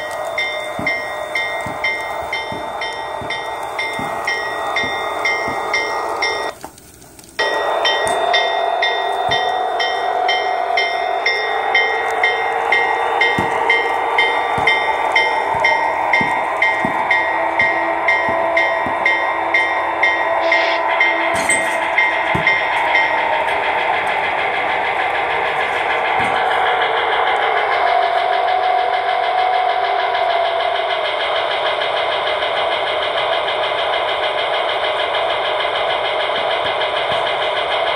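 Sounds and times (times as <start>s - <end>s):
locomotive bell ringing: 0.0s - 6.6s, 7.4s - 37.9s
steady tone: 0.0s - 6.6s, 7.4s - 37.9s
diesel engine drone: 0.0s - 37.9s.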